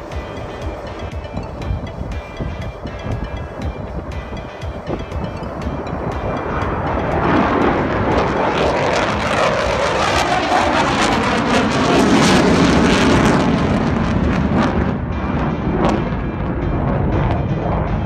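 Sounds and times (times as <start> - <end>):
jet aircraft flying past: 2.8 - 18.0.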